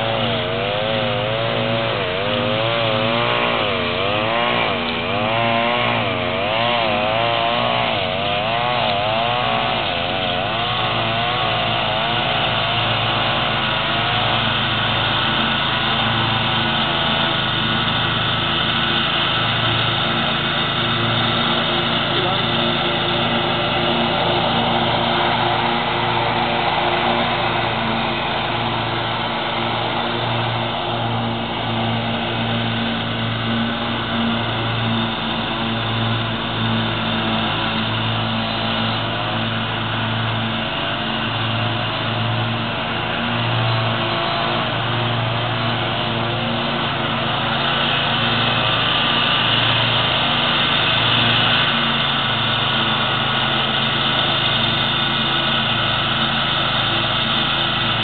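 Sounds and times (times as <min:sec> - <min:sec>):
riding lawn mower engine: 0:00.0 - 0:58.0.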